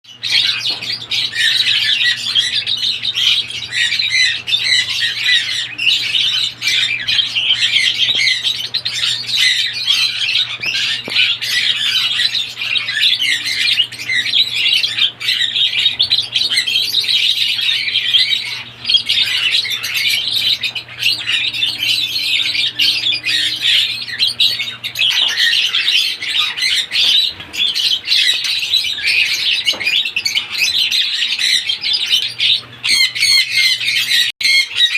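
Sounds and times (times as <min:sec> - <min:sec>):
birds chattering and squawking: 0:00.0 - 0:34.9.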